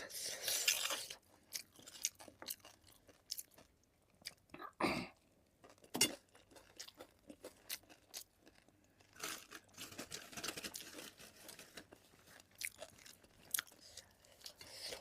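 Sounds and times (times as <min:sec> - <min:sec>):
person chewing food: 0:00.3 - 0:15.0.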